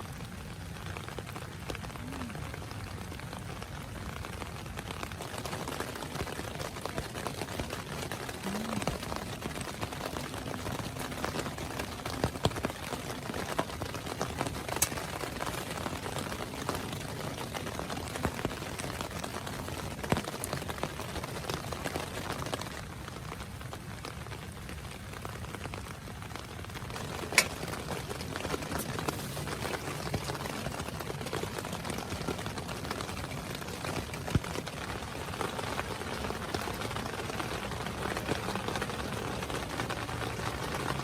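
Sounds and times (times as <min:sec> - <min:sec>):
heavy rain pattering on a tent: 0:00.0 - 0:41.0.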